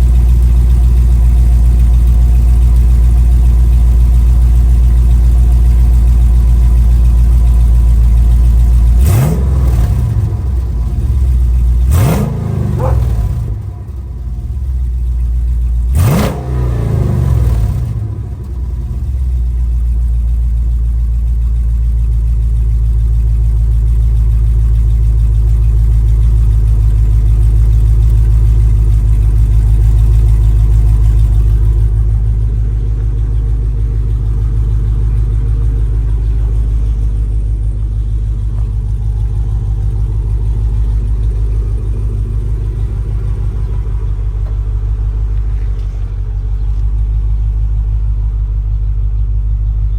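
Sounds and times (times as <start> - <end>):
engine revving and idling: 0.0 - 49.9.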